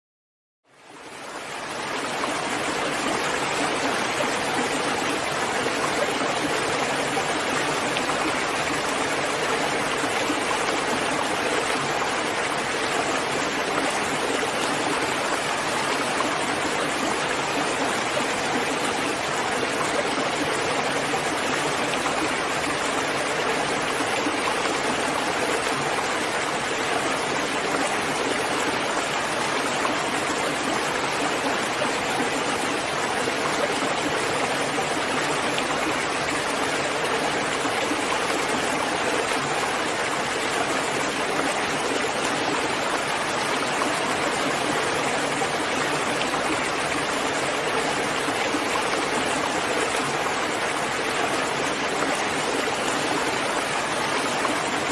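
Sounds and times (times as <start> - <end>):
steady rainfall: 0.7 - 54.9.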